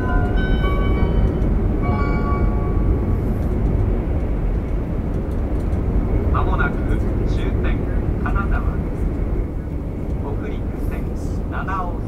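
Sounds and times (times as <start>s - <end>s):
train running noise rumble: 0.0s - 12.0s.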